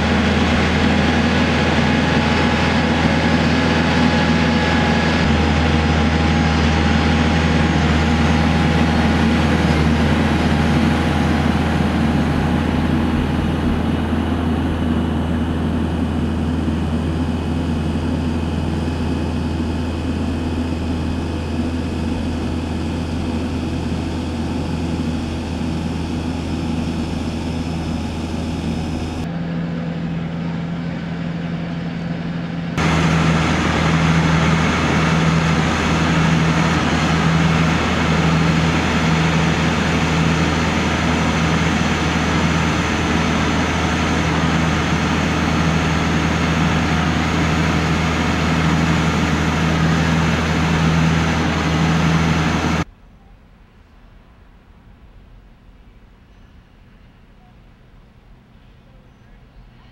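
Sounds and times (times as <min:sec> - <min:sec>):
tractor engine under load: 0:00.0 - 0:52.9.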